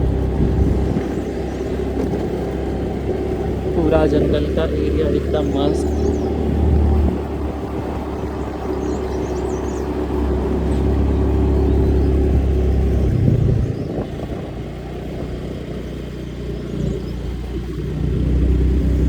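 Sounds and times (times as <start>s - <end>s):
road rumble: 0.0s - 19.0s
vehicle engine running: 0.0s - 19.0s.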